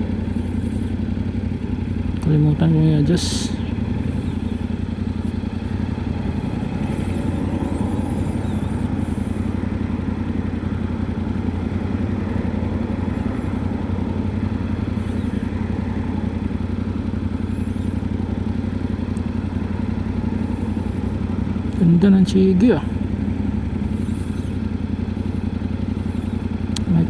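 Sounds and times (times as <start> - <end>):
motorcycle engine running steadily: 0.0 - 27.0.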